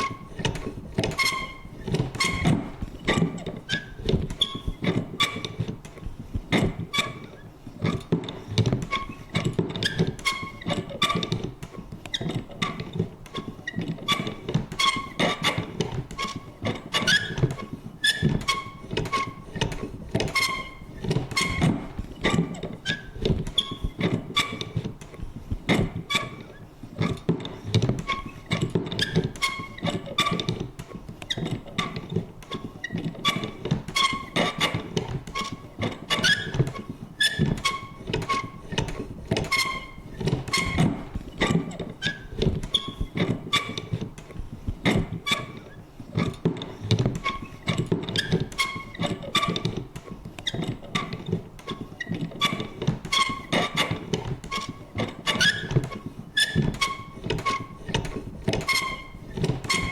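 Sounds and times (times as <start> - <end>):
squeaky mechanism creaks: 0.0 - 59.9.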